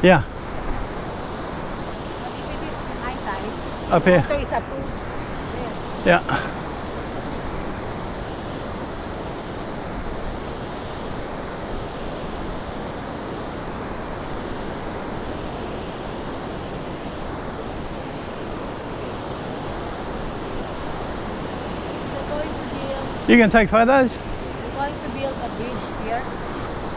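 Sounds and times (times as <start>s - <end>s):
ocean surf washing ashore: 0.0s - 26.9s
wind on microphone: 0.0s - 26.9s.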